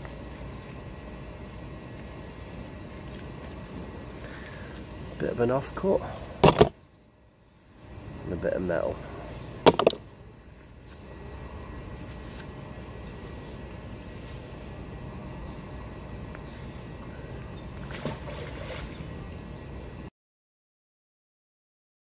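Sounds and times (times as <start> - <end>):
small birds chirping: 0.0 - 20.0
low outdoor rumble: 0.0 - 20.1.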